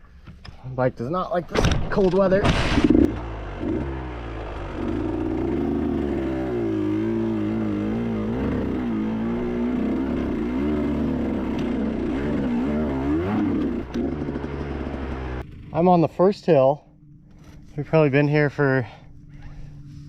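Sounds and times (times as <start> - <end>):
dirt bike engine running: 2.0 - 20.0.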